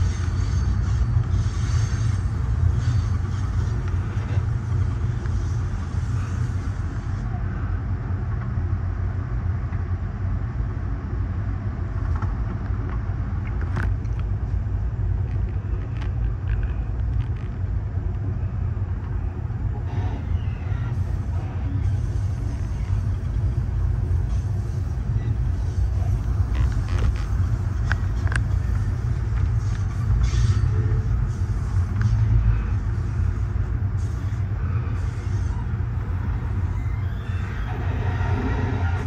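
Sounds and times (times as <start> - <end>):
train wheels rumbling on rails: 0.0 - 10.0, 11.0 - 39.0.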